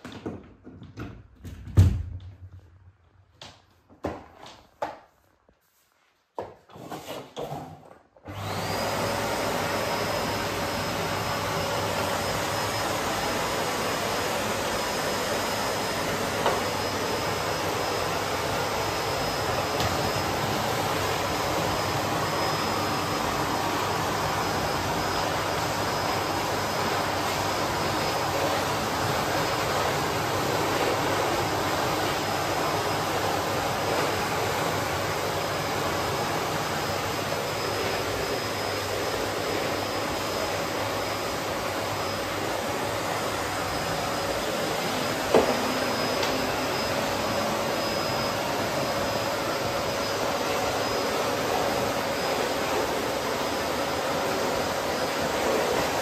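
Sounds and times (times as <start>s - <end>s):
vacuum cleaner running: 6.7s - 56.0s.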